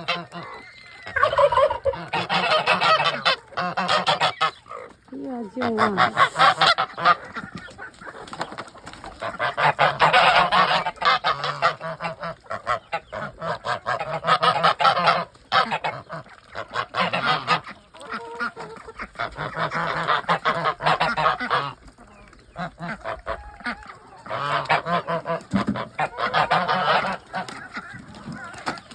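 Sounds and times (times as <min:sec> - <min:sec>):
poultry calling: 0:00.0 - 0:28.9.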